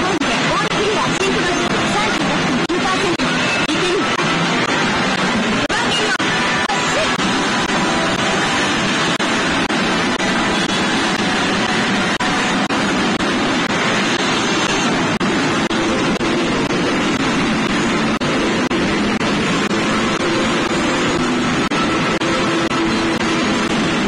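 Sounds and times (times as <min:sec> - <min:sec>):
steel balls and machines din: 0:00.0 - 0:24.0.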